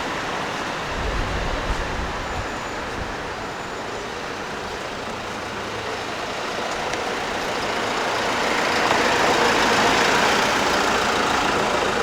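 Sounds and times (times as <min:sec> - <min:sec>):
passing motor vehicles: 0:00.0 - 0:12.0.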